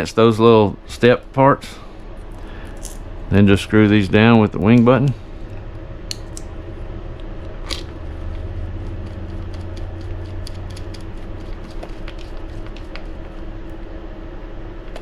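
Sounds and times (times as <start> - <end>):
air conditioner hum: 0.0 - 15.0.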